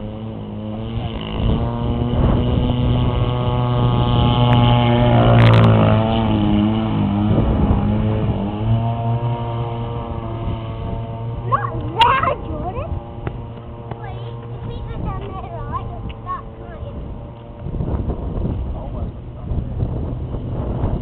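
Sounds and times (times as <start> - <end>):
model boat engine running: 0.0 - 21.0.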